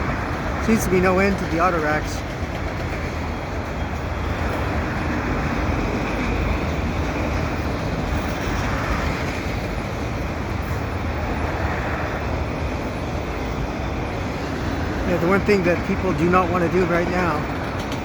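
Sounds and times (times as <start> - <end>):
freight train wheels rumbling on rail: 0.0 - 18.0
highway traffic: 0.0 - 18.0.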